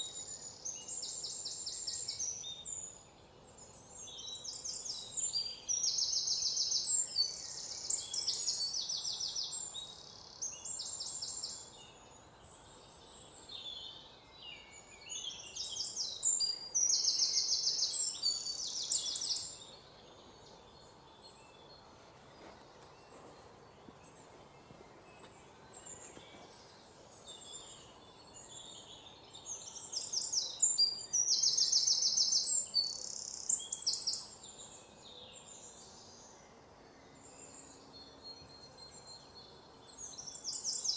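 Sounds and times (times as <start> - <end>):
faint outdoor hiss: 0.0 - 40.9.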